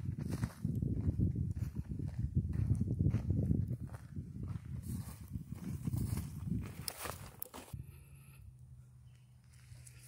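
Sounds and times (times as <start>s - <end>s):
footsteps on dirt and dry grass: 0.0s - 8.0s, 9.1s - 10.0s.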